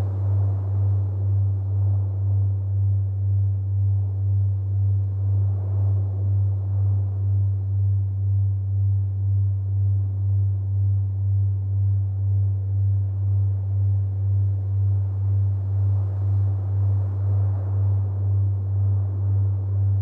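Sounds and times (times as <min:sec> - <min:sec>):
faint low rumble: 0:00.0 - 0:20.0
pulsing electronic sine drone: 0:00.0 - 0:20.0.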